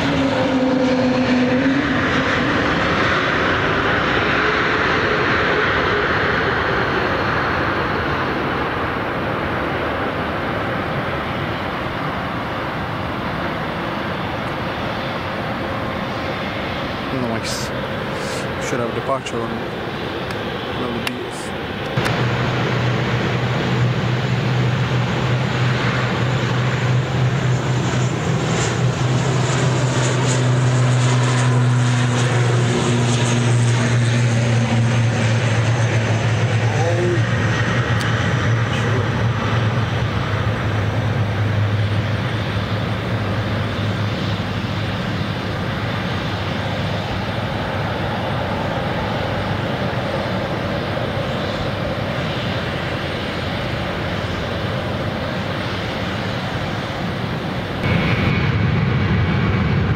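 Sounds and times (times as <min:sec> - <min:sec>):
turboprop aircraft taking off: 0:00.0 - 0:59.9.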